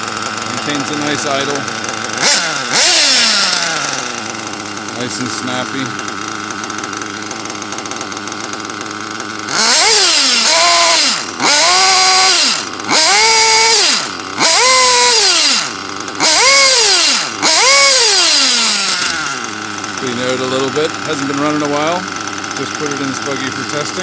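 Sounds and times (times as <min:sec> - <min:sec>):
rc car engine revving: 0:00.0 - 0:24.0.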